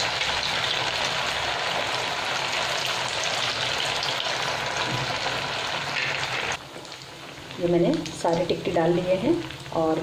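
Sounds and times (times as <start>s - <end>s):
patties deep-frying in hot oil: 0.0s - 10.0s.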